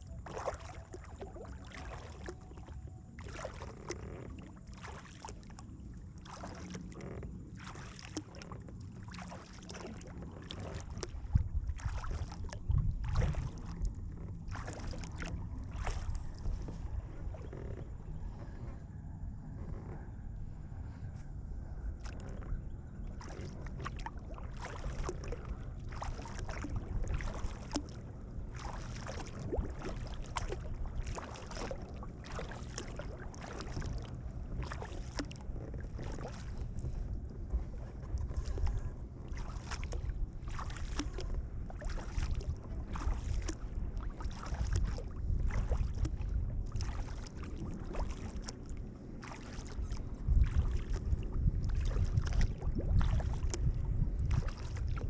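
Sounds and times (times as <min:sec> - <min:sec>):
paddle splashing in water: 0:00.0 - 0:18.8, 0:22.0 - 0:55.0
wind rumble on microphone: 0:00.0 - 0:55.0.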